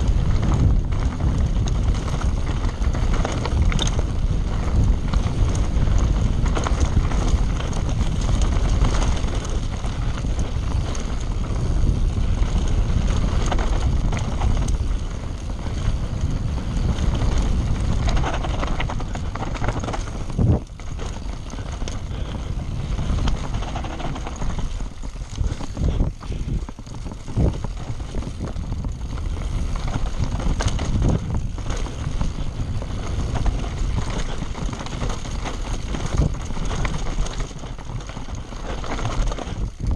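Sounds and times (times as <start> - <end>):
bike knocking and rattling: 0.0 - 39.9
wind rumble on microphone: 0.0 - 39.9
tyres on dirt and stones: 0.1 - 39.8.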